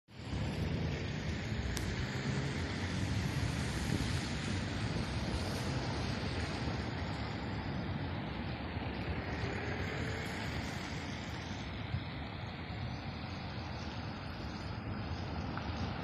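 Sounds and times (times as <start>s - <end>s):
low rumble of outdoor noise: 0.1s - 16.0s.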